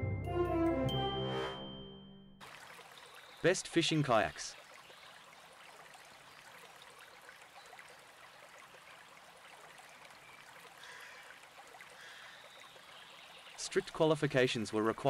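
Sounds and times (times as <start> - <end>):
running water hiss: 2.4 - 15.0.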